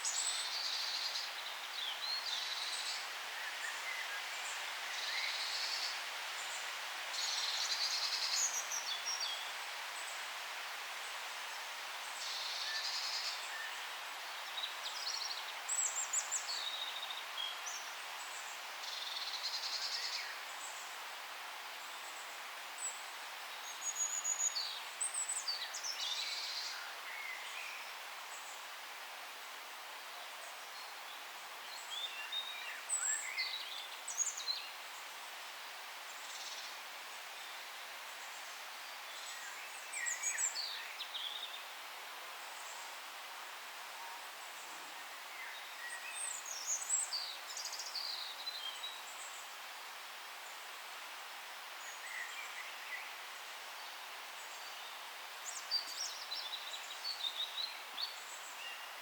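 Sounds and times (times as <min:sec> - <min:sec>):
forest background hiss: 0:00.0 - 0:59.0.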